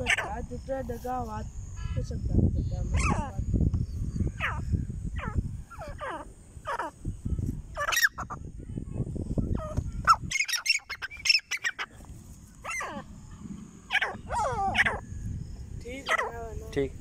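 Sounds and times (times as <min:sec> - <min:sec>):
francolins calling: 0:00.0 - 0:17.0.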